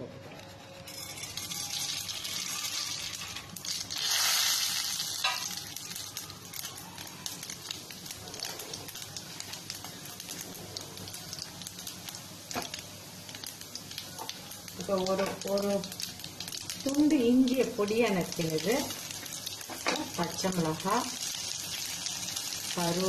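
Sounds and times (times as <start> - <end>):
seeds sizzling and popping in oil: 0.9 - 23.0.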